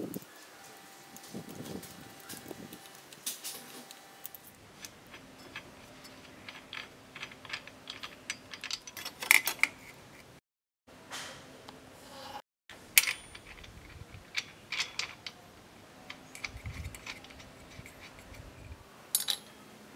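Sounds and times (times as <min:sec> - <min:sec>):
small metal parts clicking: 0:00.1 - 0:10.0, 0:12.9 - 0:19.6.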